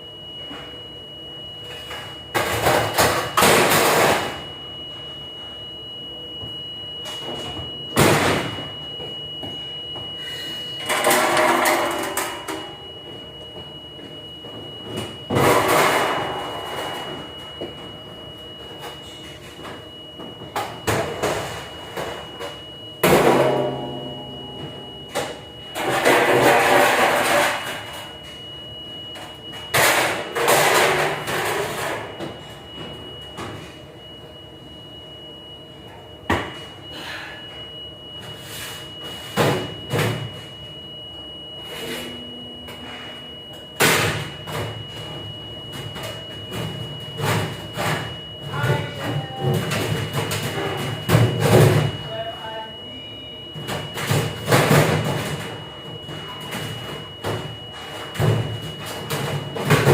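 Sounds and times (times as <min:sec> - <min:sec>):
high-pitched machine whine: 0:00.0 - 0:59.9.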